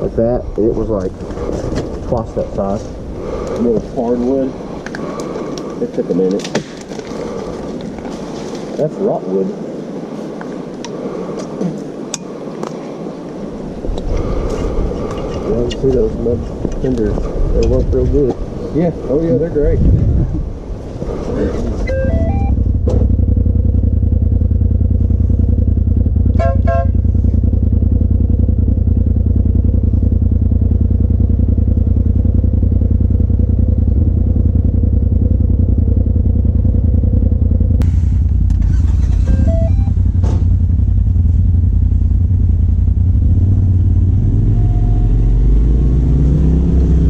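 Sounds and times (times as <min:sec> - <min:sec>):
off-road vehicle engine running: 0:00.0 - 0:09.9, 0:13.7 - 0:47.0.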